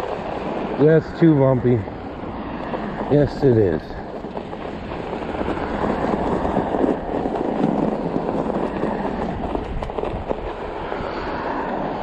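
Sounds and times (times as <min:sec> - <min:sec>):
bike tires crunching on snow: 0:00.0 - 0:12.0.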